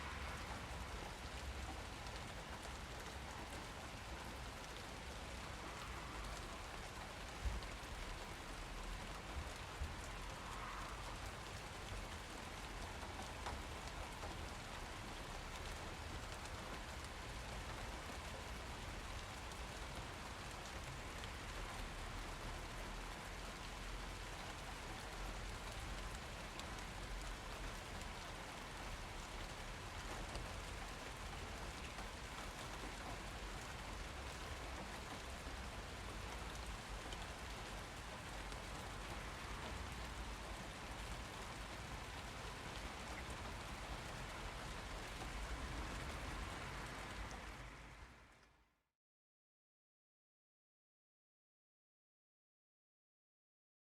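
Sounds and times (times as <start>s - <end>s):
rain pattering: 0.0s - 48.6s.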